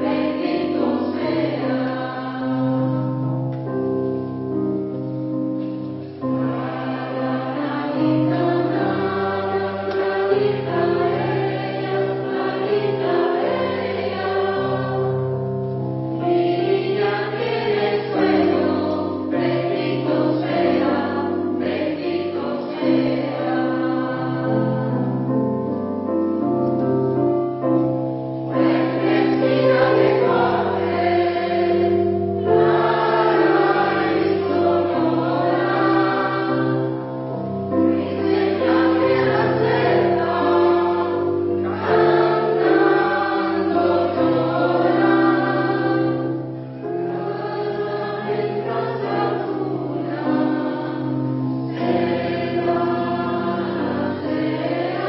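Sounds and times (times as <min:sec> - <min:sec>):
choir singing: 0:00.0 - 0:03.8, 0:06.2 - 0:15.6, 0:16.2 - 0:25.4, 0:28.5 - 0:55.0.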